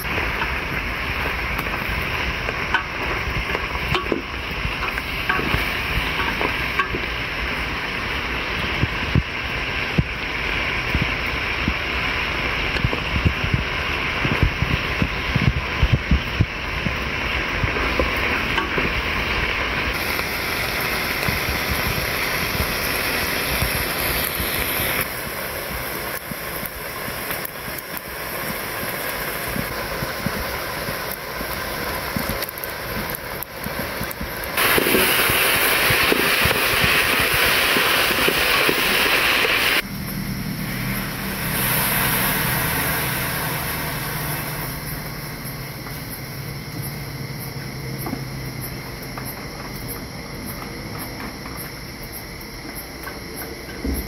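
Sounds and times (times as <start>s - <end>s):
stew simmering: 0.0s - 51.7s
wood fire burning: 0.0s - 54.0s.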